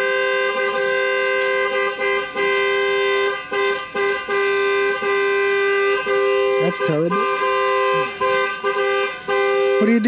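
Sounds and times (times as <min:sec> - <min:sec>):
car alarm horn blasts: 0:00.0 - 0:10.0.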